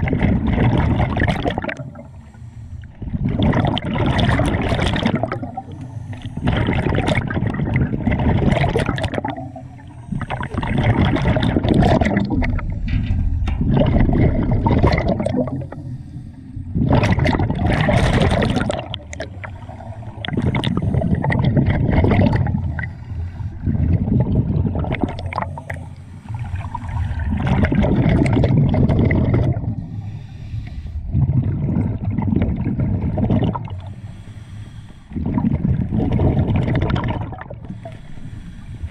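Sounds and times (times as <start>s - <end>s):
underwater regulator bubbling exhalations: 0.0s - 34.0s, 35.1s - 38.1s.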